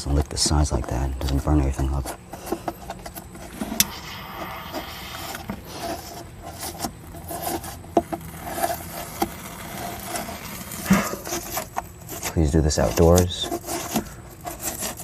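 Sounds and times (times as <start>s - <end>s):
knife rasping through plastic: 0.0s - 15.0s.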